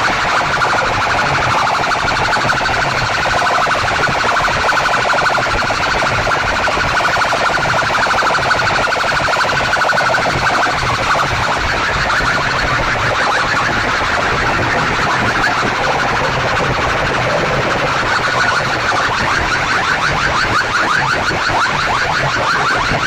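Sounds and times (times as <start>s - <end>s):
loud pulsing electronic tone: 0.0s - 23.0s.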